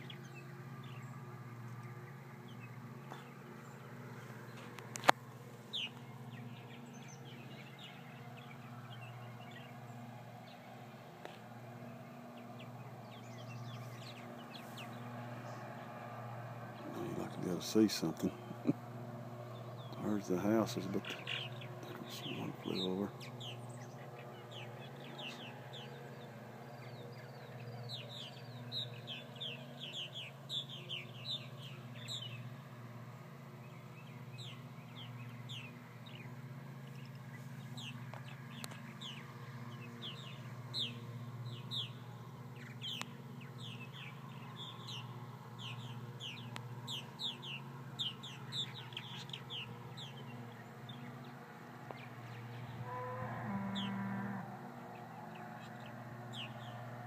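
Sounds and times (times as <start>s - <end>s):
birds chirping in flight: 0.0s - 57.0s.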